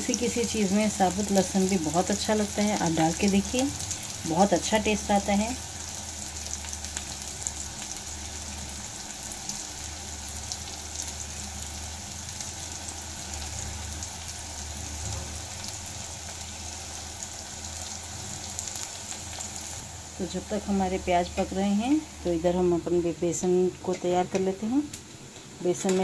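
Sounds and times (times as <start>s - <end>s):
low steady hum: 0.0s - 26.0s
onions sizzling in oil: 0.0s - 26.0s.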